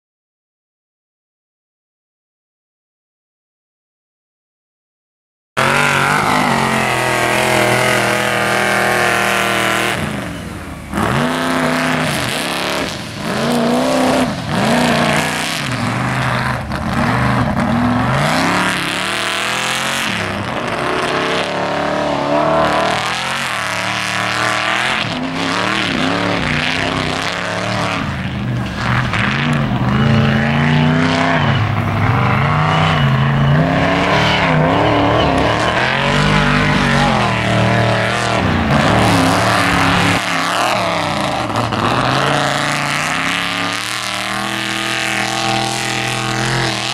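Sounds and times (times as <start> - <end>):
truck engine revving: 5.6 - 46.9.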